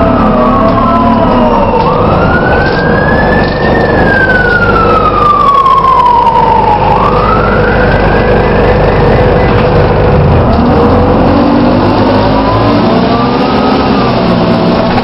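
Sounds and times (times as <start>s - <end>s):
bus engine rumble: 0.0s - 15.0s
bus whirring whine: 0.0s - 15.0s.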